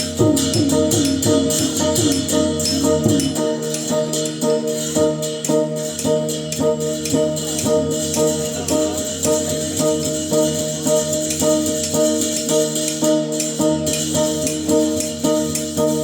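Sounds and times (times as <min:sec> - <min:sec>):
cymbals clashing: 0:00.0 - 0:16.0
drums: 0:00.0 - 0:16.0
gongs ringing: 0:00.0 - 0:16.0.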